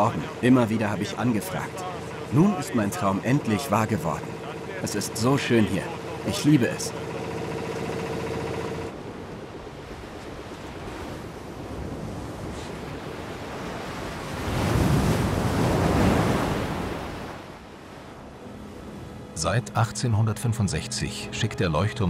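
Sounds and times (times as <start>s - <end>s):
wind: 0.0s - 20.5s
sea surf: 0.0s - 22.0s.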